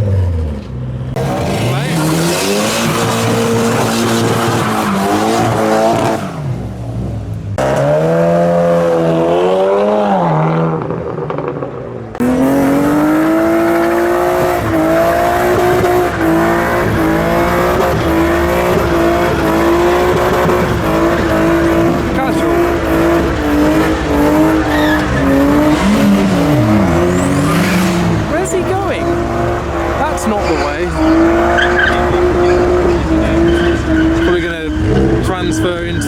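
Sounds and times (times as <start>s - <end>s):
car engine revving: 0.0s - 36.0s
tyres squealing: 1.2s - 6.9s, 12.2s - 36.0s.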